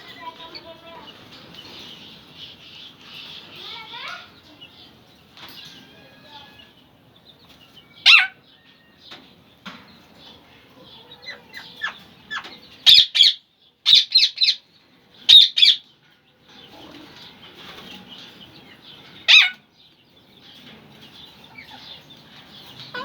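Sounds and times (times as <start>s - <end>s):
pet birds sharp calls: 0.0s - 6.8s, 7.5s - 9.2s, 10.2s - 15.9s, 16.6s - 23.0s
faint continuous bird chirping: 0.0s - 23.0s.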